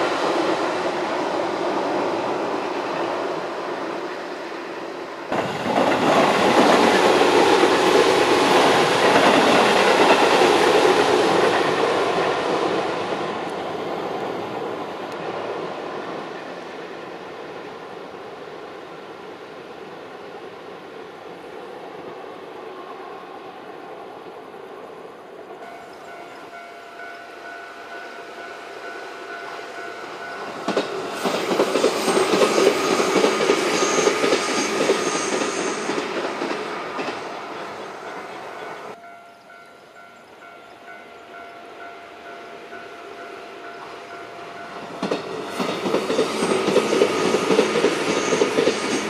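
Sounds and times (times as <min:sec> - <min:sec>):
electric train passing: 0:00.0 - 0:49.0.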